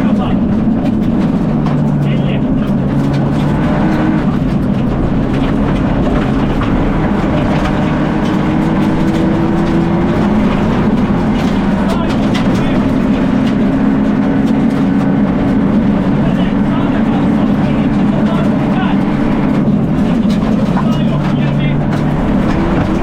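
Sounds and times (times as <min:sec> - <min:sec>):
rally car engine under load: 0:00.0 - 0:23.0.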